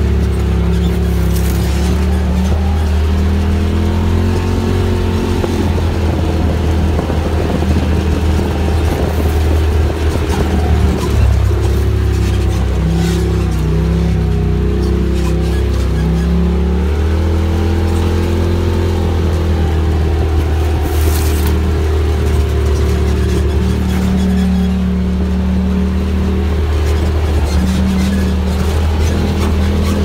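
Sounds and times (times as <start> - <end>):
utility vehicle engine droning: 0.0 - 30.0.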